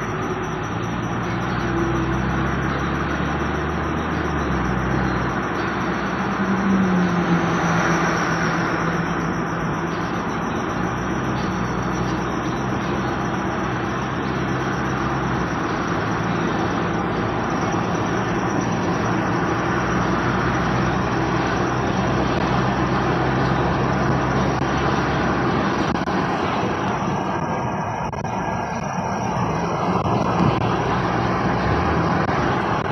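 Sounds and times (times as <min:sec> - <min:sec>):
car engine hum: 0:00.0 - 0:32.9.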